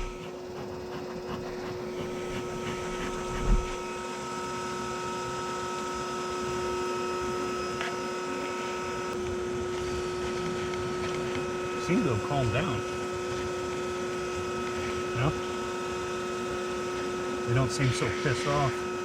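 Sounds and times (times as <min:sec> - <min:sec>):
vacuum motor whining: 0:00.0 - 0:19.0.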